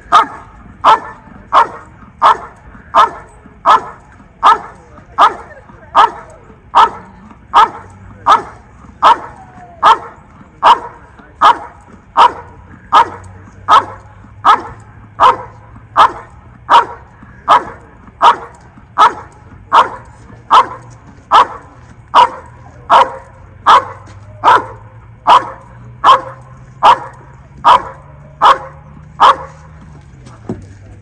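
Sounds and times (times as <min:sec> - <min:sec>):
dog barking rhythmically: 0:00.0 - 0:30.0.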